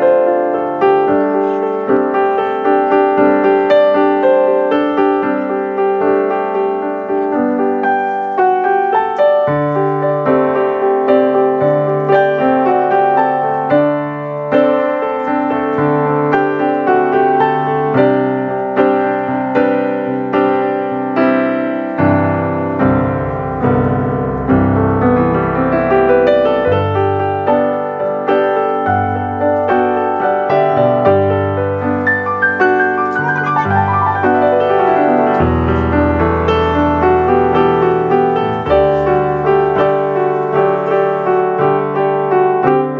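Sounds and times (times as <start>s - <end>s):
gentle piano music: 0.0s - 42.9s.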